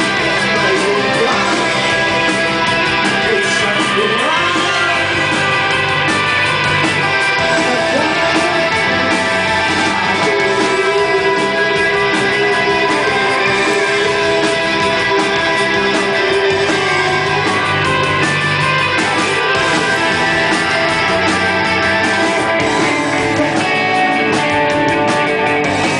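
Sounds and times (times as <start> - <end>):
electric guitar: 0.0 - 25.9
rock band playing: 0.0 - 25.9.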